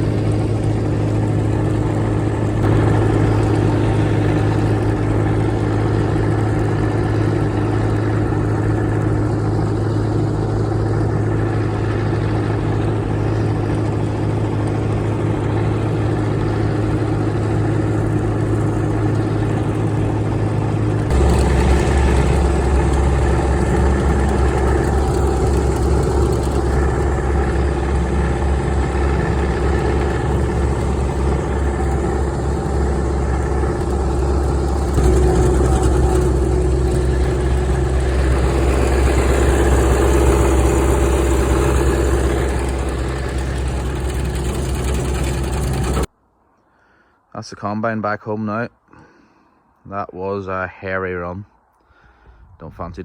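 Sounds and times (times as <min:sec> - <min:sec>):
combine harvester engine running: 0:00.0 - 0:46.1.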